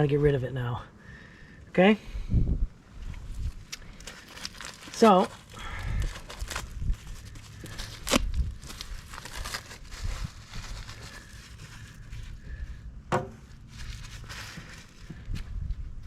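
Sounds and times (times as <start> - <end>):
crinkling rustling handling noise: 2.9 - 16.0.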